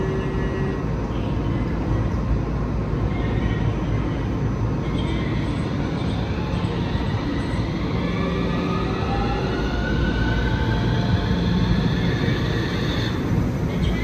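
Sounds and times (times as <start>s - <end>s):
tram pulling away: 0.0s - 14.0s
tram rumbling and humming: 0.0s - 14.0s.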